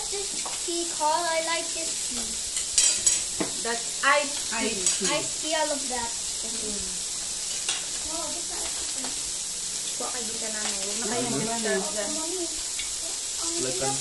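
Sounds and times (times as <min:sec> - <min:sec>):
meat sizzling on grill: 0:00.0 - 0:14.0.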